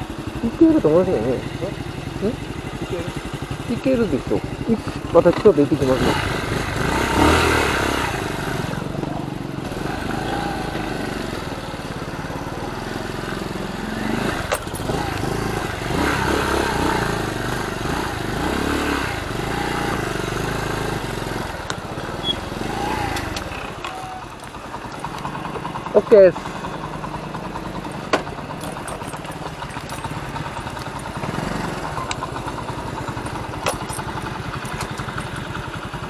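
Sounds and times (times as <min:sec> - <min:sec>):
small motorcycle engine revving: 0:00.0 - 0:36.0.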